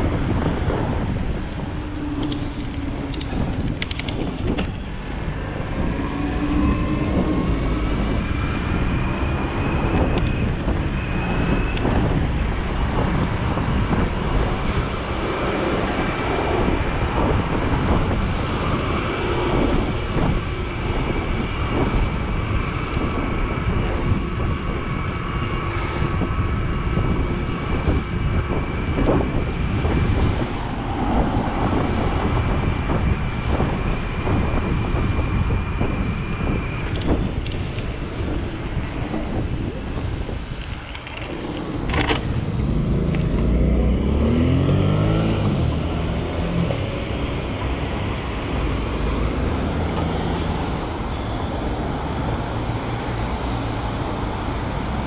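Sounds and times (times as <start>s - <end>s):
tyre and road noise: 0.0s - 55.0s
wind buffeting microphone: 0.0s - 55.0s.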